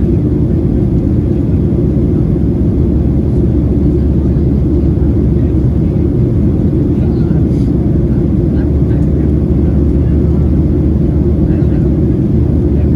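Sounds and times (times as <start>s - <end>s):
jet airliner cabin rumble: 0.0s - 12.9s.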